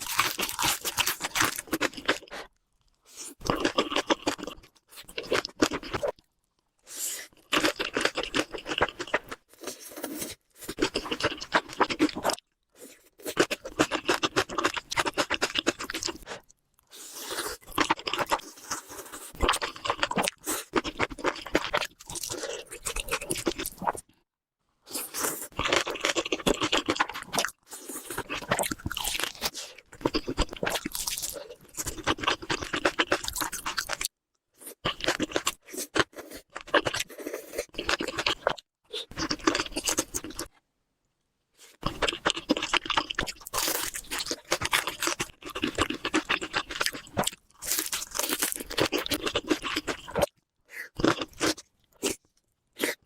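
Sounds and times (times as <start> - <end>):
food crunching and chewing: 0.0 - 24.2, 24.9 - 40.6, 41.6 - 53.0.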